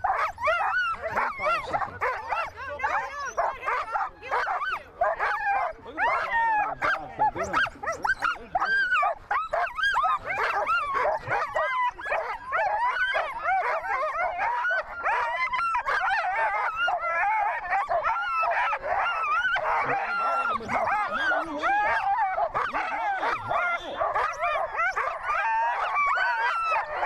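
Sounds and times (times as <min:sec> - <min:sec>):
sled dogs barking and howling: 0:00.0 - 0:27.0.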